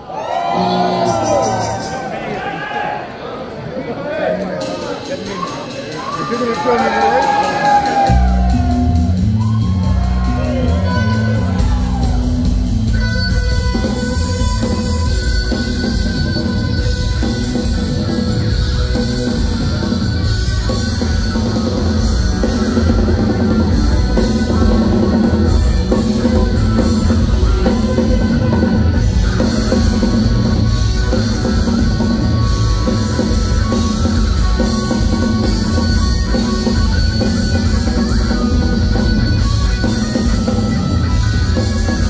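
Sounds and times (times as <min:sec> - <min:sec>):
live rock band playing: 0:00.0 - 0:02.2, 0:04.4 - 0:42.0.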